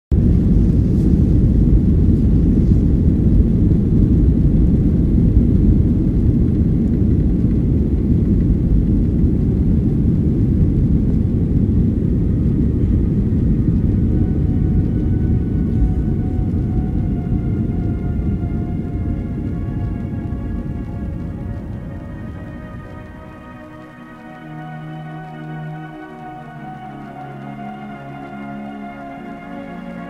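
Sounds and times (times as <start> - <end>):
jet airliner taxiing rumble: 0.1 - 29.8.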